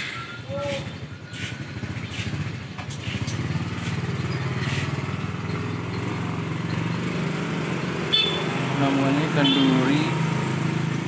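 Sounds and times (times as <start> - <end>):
small engine running: 1.0 - 11.0.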